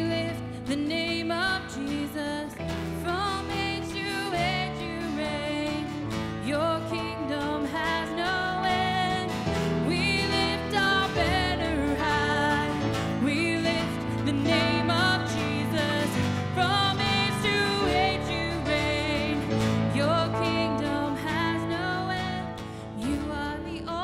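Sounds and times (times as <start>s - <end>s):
electric and acoustic guitars: 0.0s - 24.0s
woman singing: 0.0s - 24.0s.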